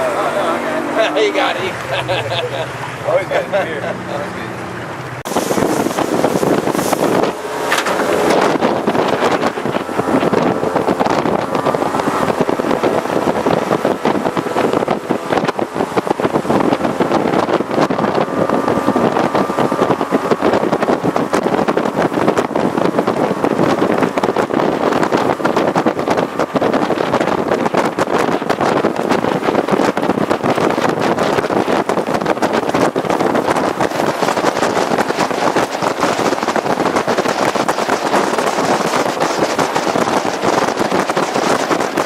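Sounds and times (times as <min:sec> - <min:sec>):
jet boat engine drone: 0:00.0 - 0:42.0
wind buffeting microphone: 0:00.0 - 0:42.0.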